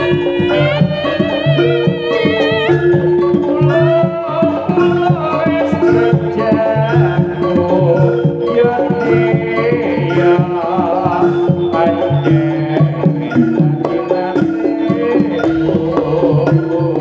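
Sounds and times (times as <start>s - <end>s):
gong-chime tones: 0.0s - 17.0s
hand drums beating: 0.0s - 17.0s
pitch-bending melody: 0.0s - 17.0s.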